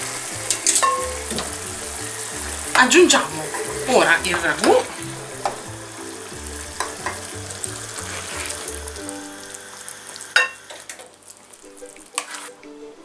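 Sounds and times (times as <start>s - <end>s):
sauce sizzling in a frying pan: 0.0s - 12.8s.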